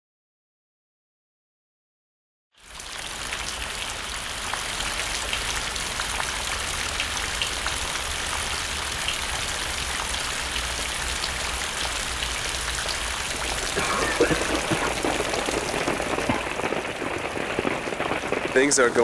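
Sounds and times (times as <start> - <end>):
raindrops ticking on a surface: 2.6 - 19.0
steady rain falling: 2.6 - 19.0.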